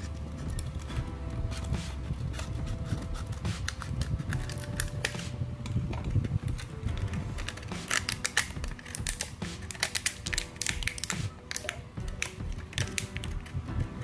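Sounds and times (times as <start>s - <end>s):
plastic bottle crackling: 0.0s - 13.6s
quiet music: 0.0s - 14.0s
scissors cutting plastic: 0.0s - 14.0s.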